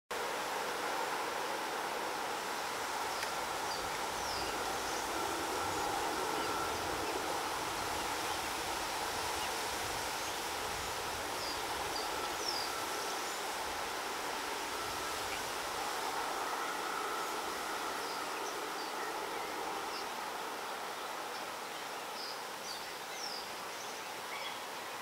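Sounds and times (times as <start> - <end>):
wetland background hiss: 0.2 - 25.0.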